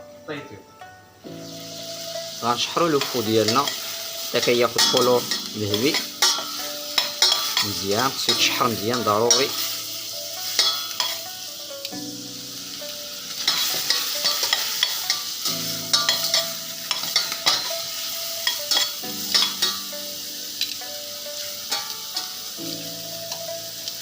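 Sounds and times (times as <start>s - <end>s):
vegetables sizzling in hot oil: 1.1s - 24.0s.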